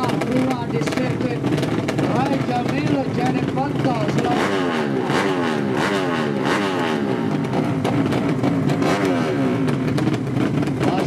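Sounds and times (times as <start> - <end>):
motorcycle engines revving high: 0.0 - 11.0.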